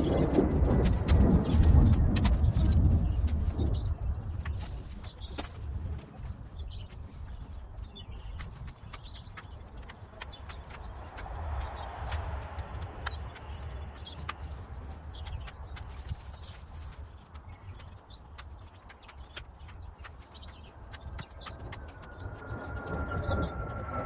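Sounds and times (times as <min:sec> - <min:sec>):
faint birds chirping: 0:00.0 - 0:24.0
wind rumbling on microphone: 0:00.0 - 0:24.0.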